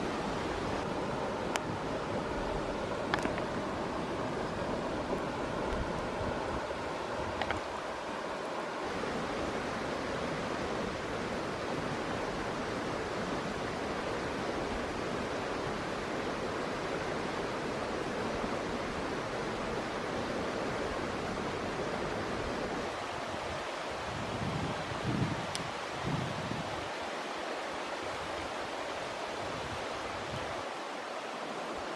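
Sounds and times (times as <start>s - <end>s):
rushing outdoor background noise: 0.0s - 31.9s.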